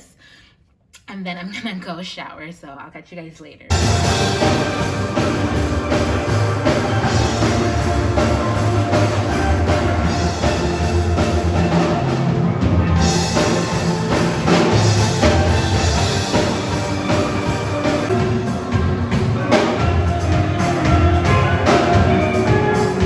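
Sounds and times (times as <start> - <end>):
music with drum beat and bass: 3.7 - 23.0.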